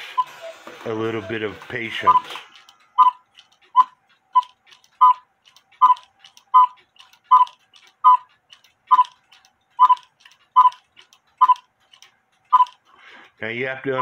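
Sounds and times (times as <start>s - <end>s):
cuckoo clock mechanism beating: 0.0s - 13.4s.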